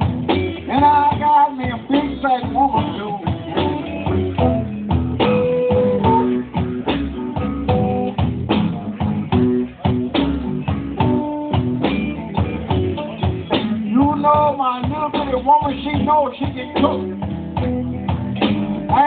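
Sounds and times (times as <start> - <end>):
drum kit beat: 0.0 - 19.0
guitar riff with bent notes: 0.0 - 19.0.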